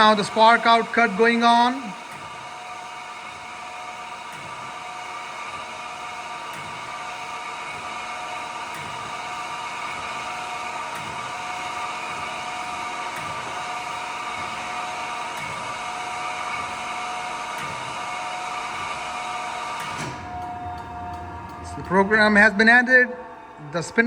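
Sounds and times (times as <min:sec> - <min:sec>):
surface grinder hum and whine: 0:00.0 - 0:24.0.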